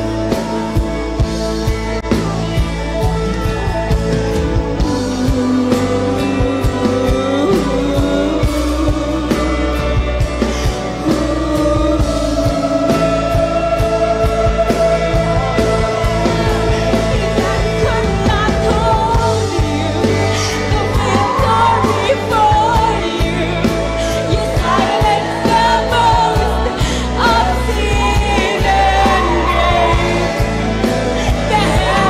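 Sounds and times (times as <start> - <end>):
drum kit: 0.0 - 32.0
electric guitar: 0.0 - 32.0
voices singing: 4.4 - 32.0.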